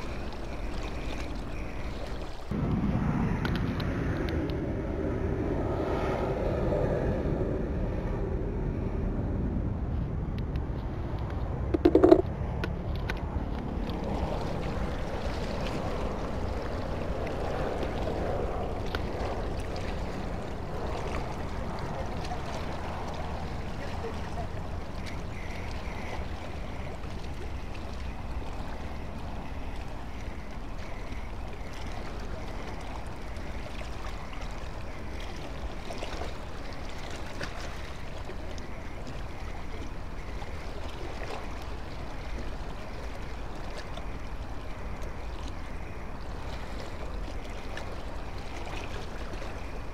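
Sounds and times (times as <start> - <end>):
harbour water: 0.0 - 49.9
wind: 0.0 - 49.9.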